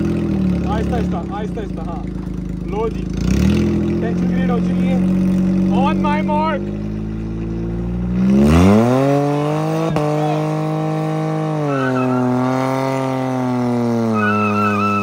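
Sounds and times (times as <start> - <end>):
car engine revving hard: 2.6 - 15.0.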